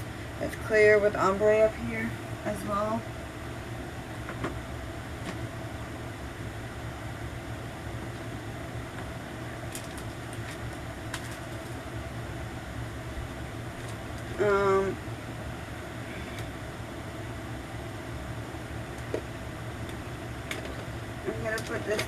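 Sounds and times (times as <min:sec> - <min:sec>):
low room hum with hiss: 0:00.0 - 0:22.0.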